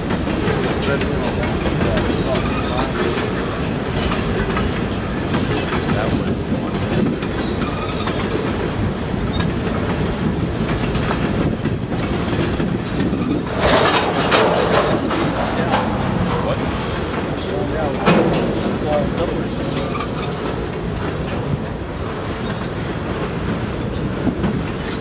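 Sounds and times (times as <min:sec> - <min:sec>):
steel wheels on rail: 0:00.0 - 0:25.0
wheels clicking over rail joints: 0:00.0 - 0:25.0.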